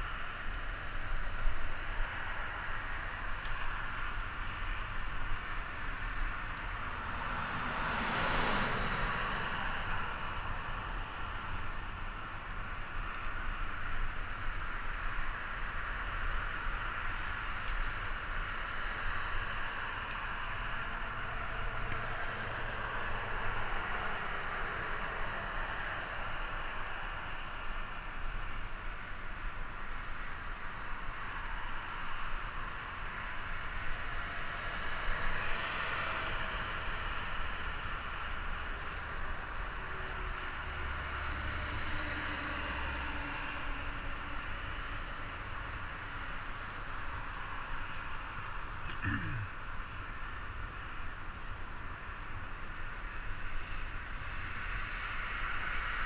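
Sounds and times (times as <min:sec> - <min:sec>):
freeway traffic hiss: 0:00.0 - 0:56.0.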